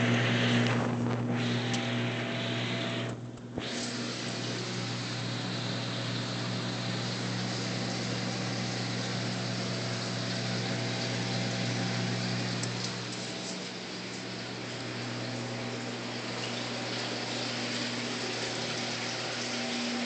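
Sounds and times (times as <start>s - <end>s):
aquarium pumps humming: 0.0s - 20.0s
water rushing: 3.9s - 20.0s.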